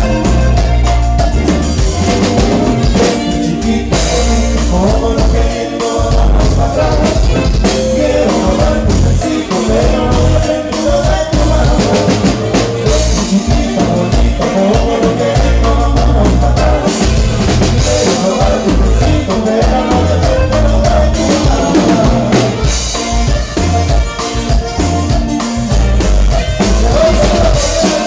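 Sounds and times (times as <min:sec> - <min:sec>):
live band playing dance song: 0:00.0 - 0:28.0
person singing: 0:00.0 - 0:28.0.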